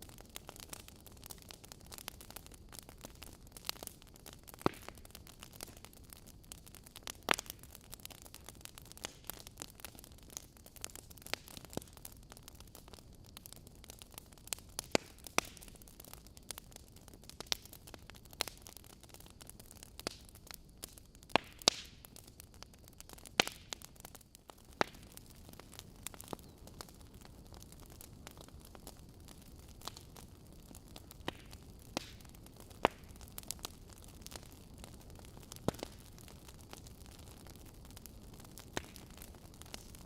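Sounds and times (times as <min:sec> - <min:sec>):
fire hissing: 0:00.0 - 0:40.0
fire popping and snapping: 0:00.0 - 0:40.0.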